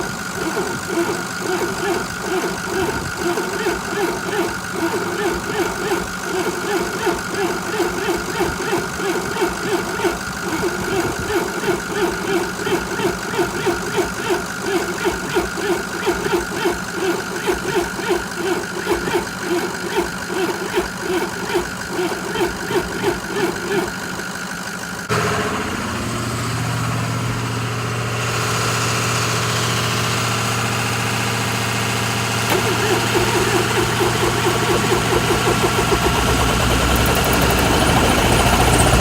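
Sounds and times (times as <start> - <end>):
engine cranking: 0.0 - 25.4, 32.2 - 39.0
engine running: 0.0 - 39.0.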